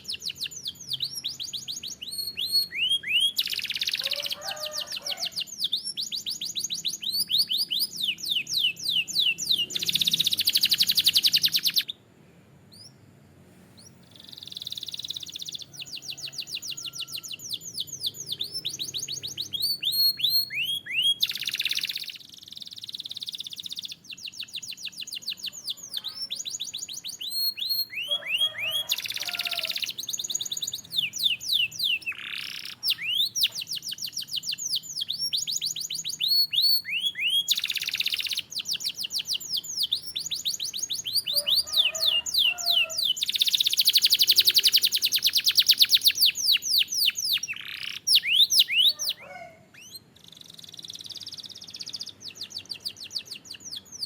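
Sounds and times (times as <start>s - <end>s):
canary singing: 0.0s - 12.0s, 12.7s - 13.0s, 13.8s - 54.0s.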